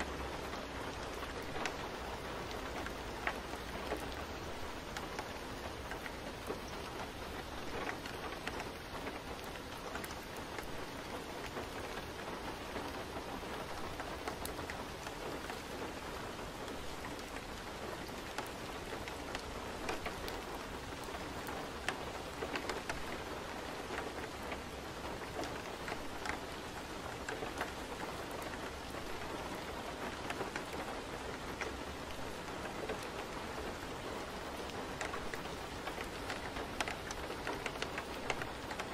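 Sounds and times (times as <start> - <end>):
raindrop ticks: 0.0 - 38.9
steady rain falling: 0.0 - 38.9.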